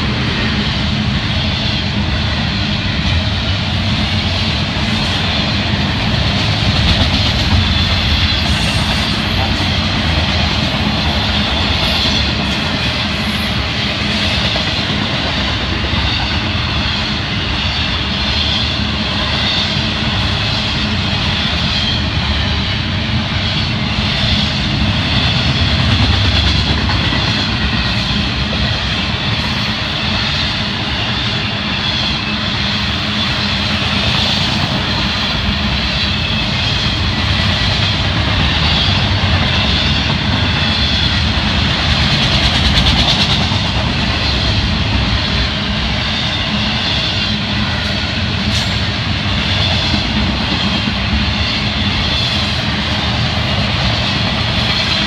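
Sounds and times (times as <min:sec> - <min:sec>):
steel wheels rumbling on track: 0:00.0 - 0:55.0.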